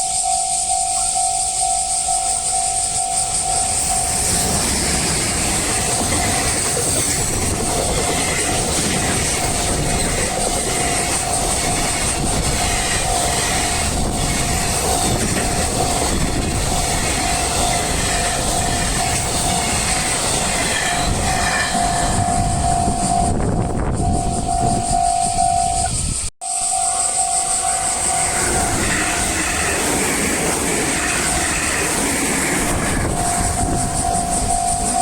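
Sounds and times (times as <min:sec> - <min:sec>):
level crossing warning bell: 0:00.0 - 0:35.0
train wheels rumbling on rails: 0:00.0 - 0:35.0.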